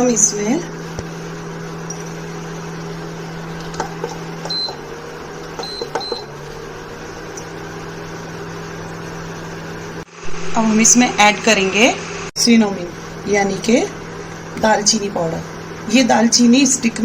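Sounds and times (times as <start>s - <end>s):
electric cooktop humming: 0.0s - 17.0s.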